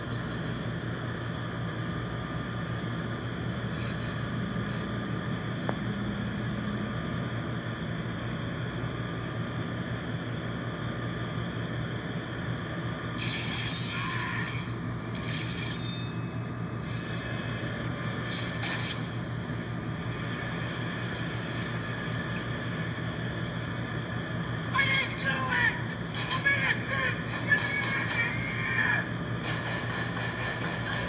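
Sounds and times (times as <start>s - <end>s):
low machine-like drone: 0.0s - 31.0s.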